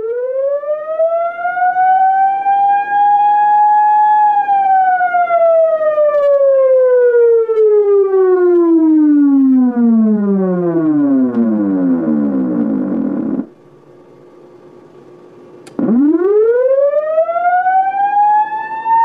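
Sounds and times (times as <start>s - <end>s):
police siren wailing: 0.0s - 13.5s, 15.8s - 19.0s.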